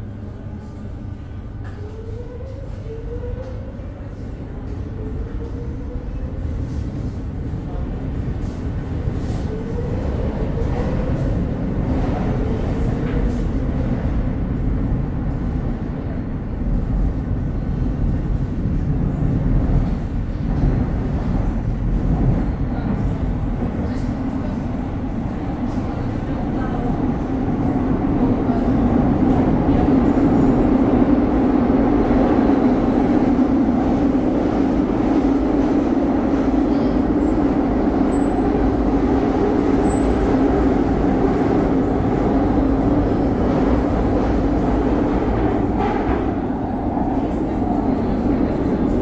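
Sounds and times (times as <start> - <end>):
train rumbling through tunnel: 0.0 - 49.0.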